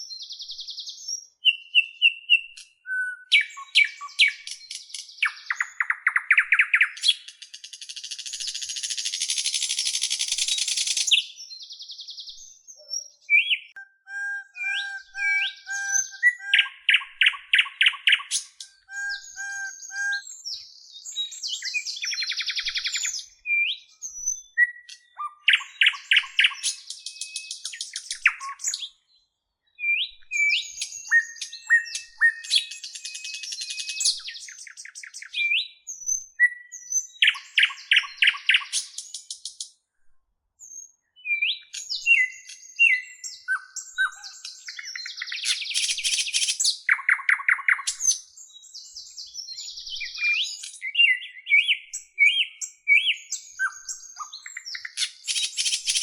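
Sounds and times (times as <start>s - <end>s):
bird singing: 0.0s - 39.7s, 40.6s - 56.0s.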